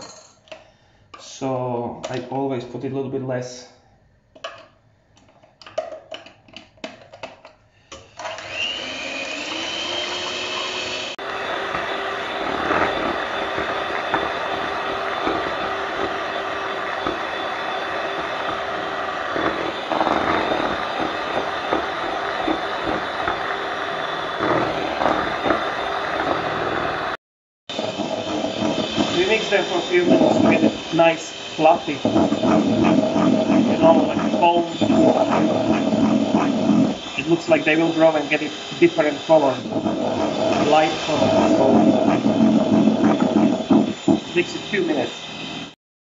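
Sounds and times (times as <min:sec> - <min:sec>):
electric hand mixer motor: 0:08.1 - 0:45.8.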